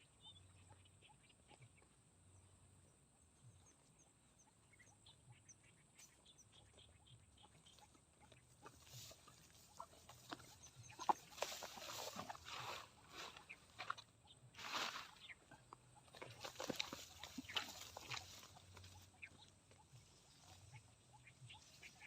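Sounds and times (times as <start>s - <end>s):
small chirps and ticks: 0.0s - 22.0s.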